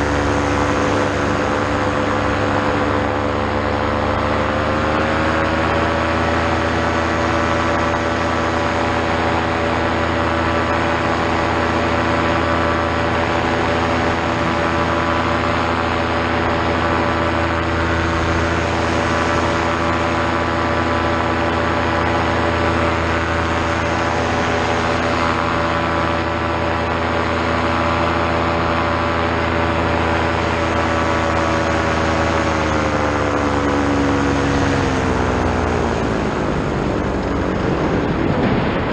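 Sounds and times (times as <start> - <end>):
rushing wind: 0.0 - 38.9
two-stroke engine and propeller: 0.0 - 38.9.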